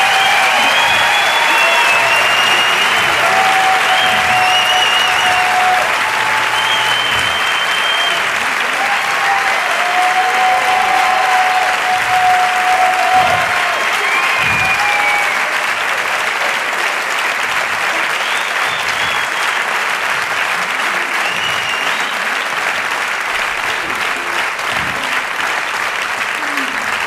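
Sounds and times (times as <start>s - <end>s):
audience applauding: 0.0s - 27.0s.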